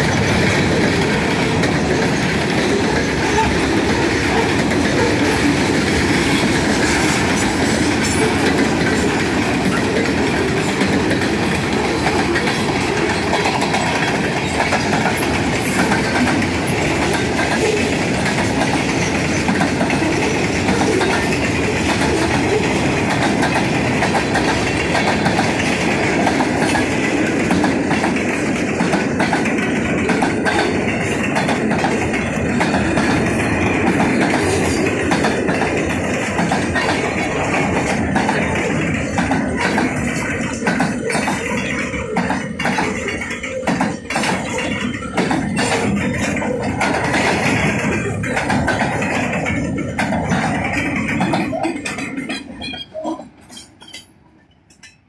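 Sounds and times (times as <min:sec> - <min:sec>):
freight train rolling by: 0:00.0 - 0:55.0
wheels clicking over rail joints: 0:00.0 - 0:55.0.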